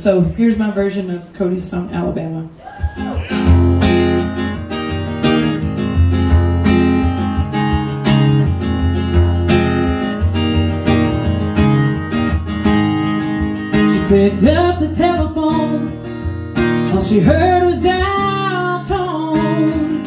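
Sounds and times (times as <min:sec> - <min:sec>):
acoustic guitar strumming: 0:03.0 - 0:20.0.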